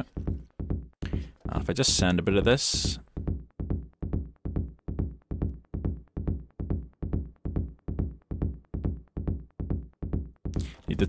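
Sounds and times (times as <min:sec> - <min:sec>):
electronic drum loop: 0:00.0 - 0:11.0.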